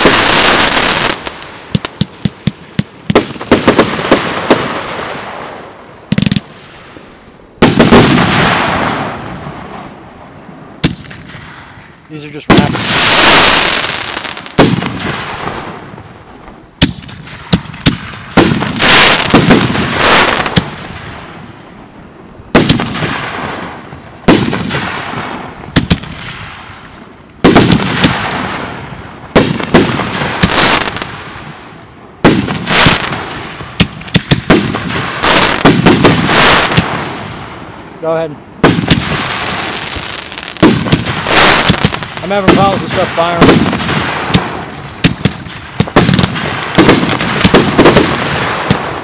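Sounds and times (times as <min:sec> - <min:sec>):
fireworks bangs: 0:00.0 - 0:49.0
fireworks crackling: 0:00.0 - 0:49.0.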